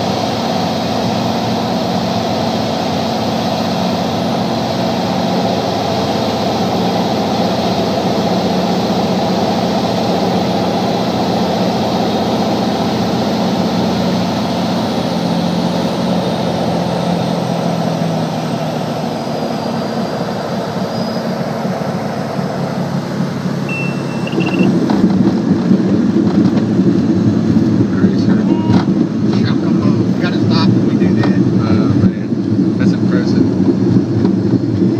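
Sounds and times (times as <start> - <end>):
propeller plane engine droning: 0.0 - 34.9
wheels rumbling on runway: 0.0 - 34.9.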